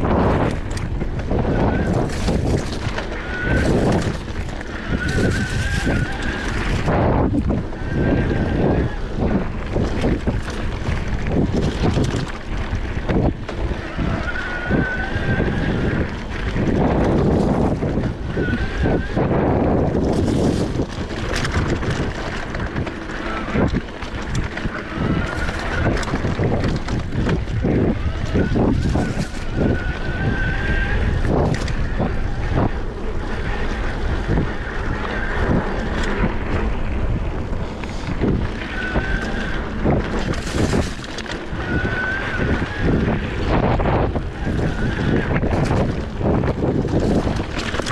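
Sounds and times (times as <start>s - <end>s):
bike rattling and knocking: 0.0s - 47.9s
tyres rolling over dirt: 0.0s - 47.9s
wind buffeting microphone: 0.0s - 47.9s.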